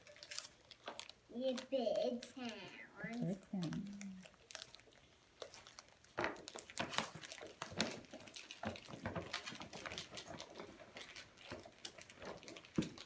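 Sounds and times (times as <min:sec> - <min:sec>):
toys rustling in hands: 0:00.0 - 0:13.0.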